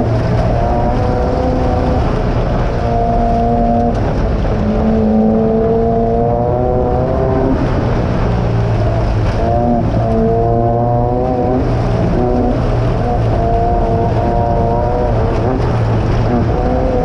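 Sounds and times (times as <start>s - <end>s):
buggy engine running hard: 0.0s - 17.0s
rush of wind and running gear: 0.0s - 17.0s.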